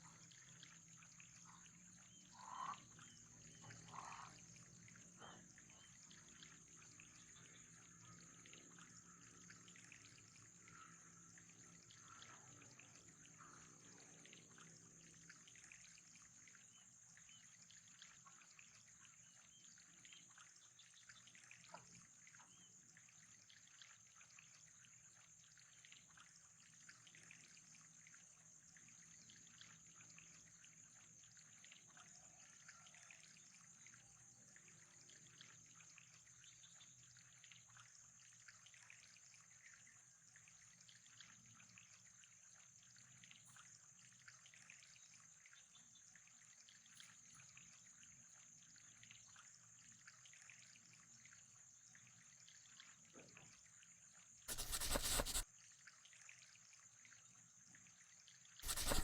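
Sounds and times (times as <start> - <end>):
trickle of running water: 0.0 - 59.0.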